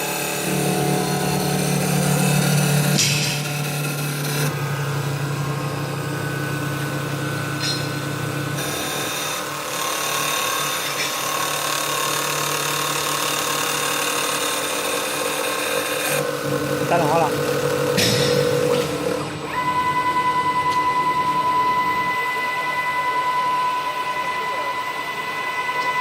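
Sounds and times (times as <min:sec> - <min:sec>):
wood turning lathe humming: 0:00.0 - 0:26.0.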